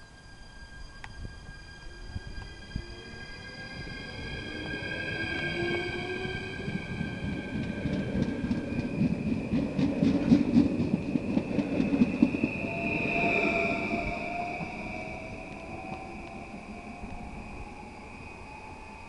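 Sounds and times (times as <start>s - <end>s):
electric train whine: 0.0s - 19.0s.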